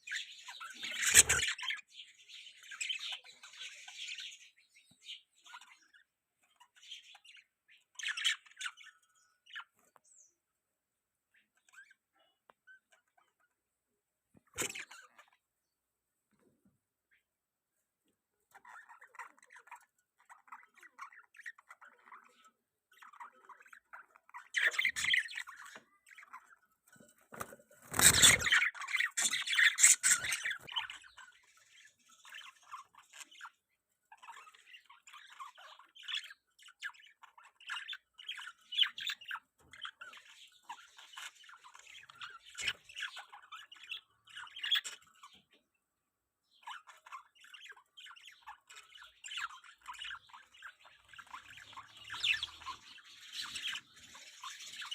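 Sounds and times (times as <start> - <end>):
budgerigars chattering and warbling: 0.0 - 10.4, 11.3 - 13.6, 14.4 - 15.5, 18.4 - 45.8, 46.4 - 54.9.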